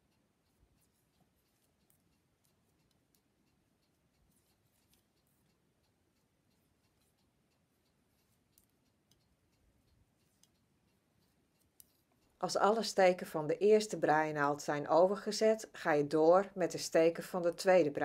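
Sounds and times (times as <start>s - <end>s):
faint knitting needle ticks: 0.0s - 18.0s.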